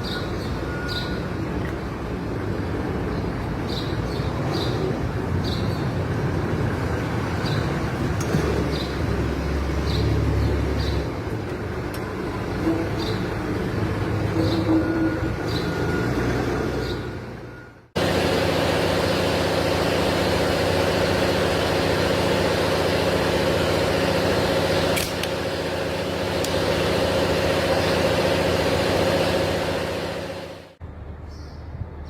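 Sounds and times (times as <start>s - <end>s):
engine running steadily: 0.1s - 31.2s.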